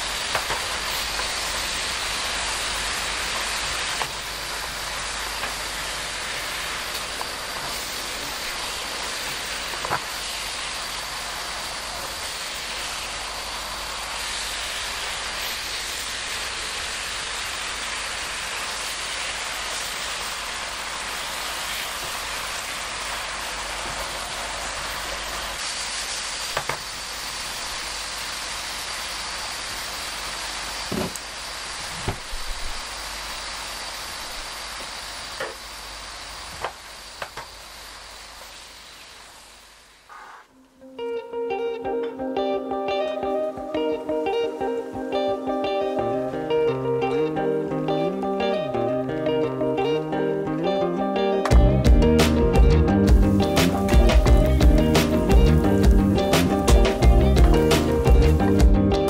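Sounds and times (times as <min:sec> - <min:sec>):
sauce sizzling in a frying pan: 0:00.0 - 0:59.0.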